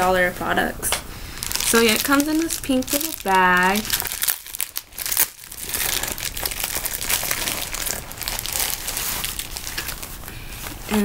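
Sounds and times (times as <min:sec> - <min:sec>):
plastic mailer crinkling: 0:01.3 - 0:11.0.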